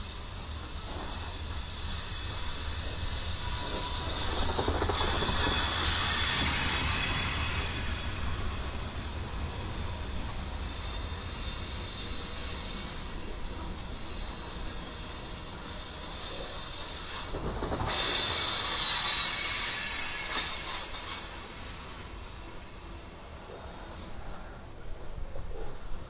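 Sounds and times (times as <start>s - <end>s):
low train rumble: 0.0s - 26.0s
train wheels squealing: 0.0s - 26.0s.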